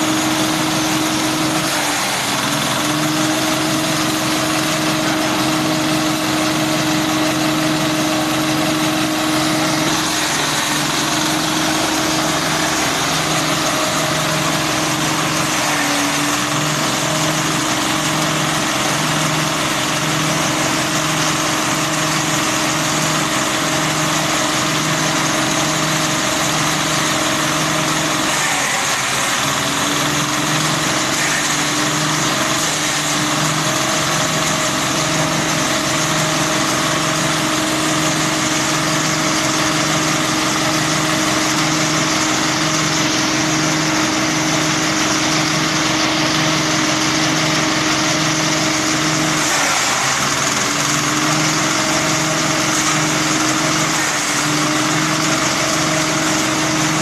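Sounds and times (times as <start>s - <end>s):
diesel engine throbbing: 0.0s - 57.0s.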